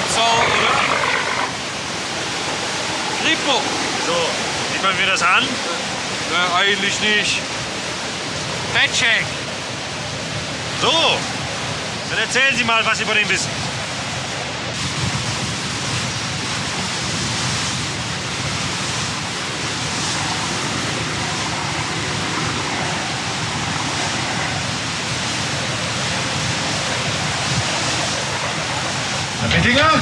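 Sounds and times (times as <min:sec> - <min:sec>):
wind rushing: 0:00.0 - 0:12.1, 0:13.2 - 0:30.0
choppy river water: 0:00.0 - 0:30.0.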